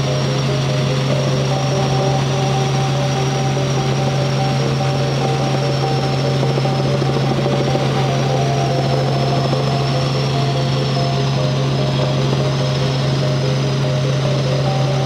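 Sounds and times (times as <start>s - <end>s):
constant rushing noise: 0.0s - 15.0s
helicopter engine and rotors drone: 0.0s - 15.0s.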